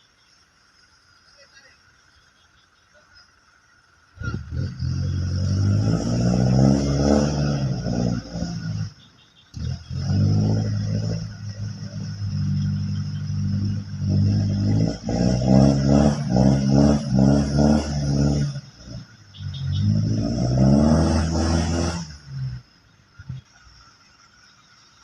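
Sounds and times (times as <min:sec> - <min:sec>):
vehicle engine revving: 0:03.4 - 0:23.6.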